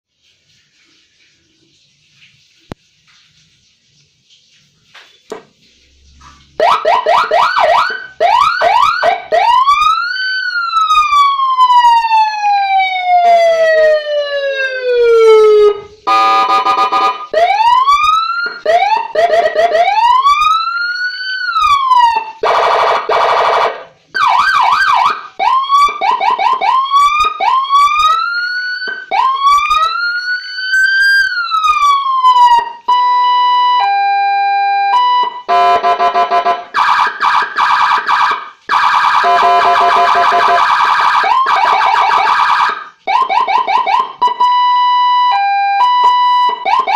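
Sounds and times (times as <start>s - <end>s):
electronic siren wailing and yelping: 6.6s - 46.9s.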